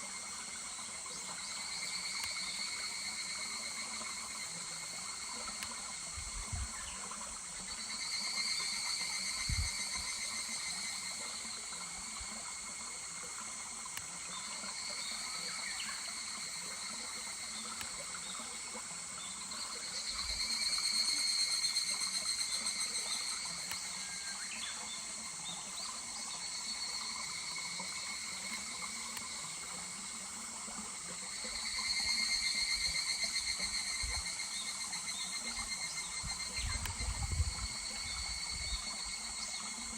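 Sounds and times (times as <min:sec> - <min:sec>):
cicadas pulsing trills: 0:00.0 - 0:39.9.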